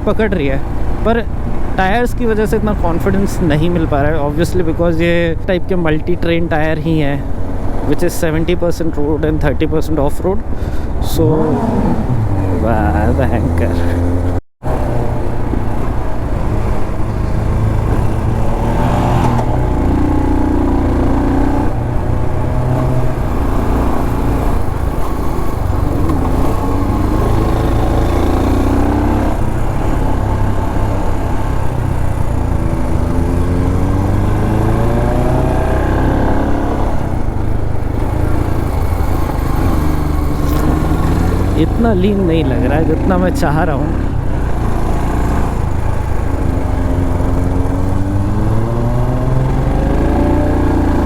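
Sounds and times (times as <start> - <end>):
motorcycle engine revving: 6.6 - 51.0.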